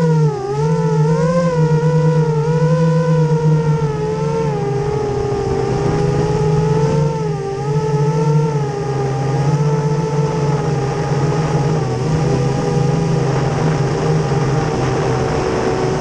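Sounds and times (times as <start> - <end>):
propeller and wind noise: 0.0 - 16.0
quadcopter motors whining: 0.0 - 16.0.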